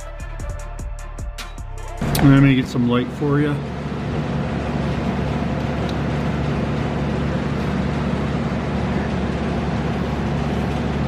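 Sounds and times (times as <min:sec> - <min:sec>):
mechanical drone with low hum: 0:00.0 - 0:11.0.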